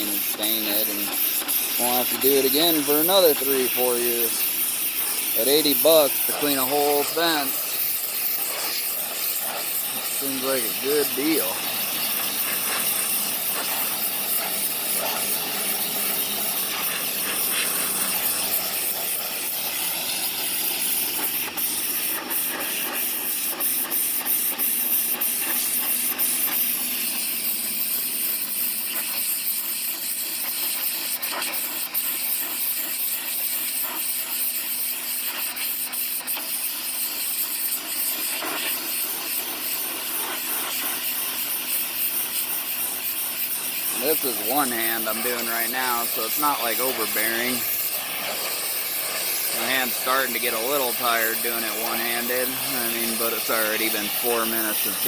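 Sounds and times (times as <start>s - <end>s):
pressure washer pump running: 0.0s - 55.0s
water jet hissing: 0.0s - 55.0s.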